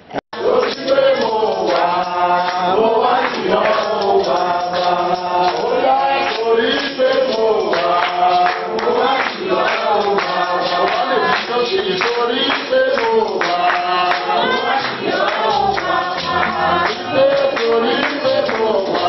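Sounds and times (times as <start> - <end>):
choir singing a hymn: 0.4 - 19.0.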